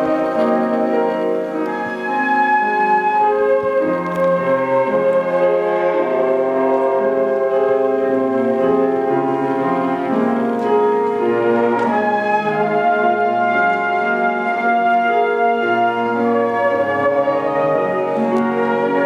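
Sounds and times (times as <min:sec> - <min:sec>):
flute ensemble playing chords: 0:00.0 - 0:19.0.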